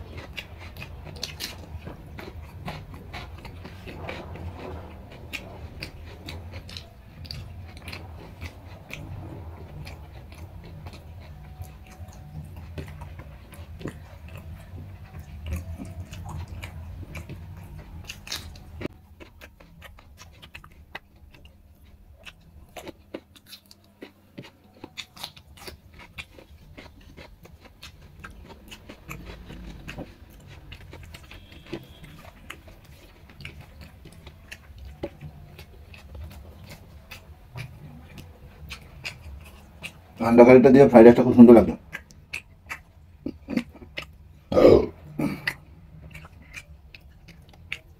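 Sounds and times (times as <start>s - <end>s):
low steady hum: 0.0s - 47.9s
person chewing food: 0.0s - 47.9s.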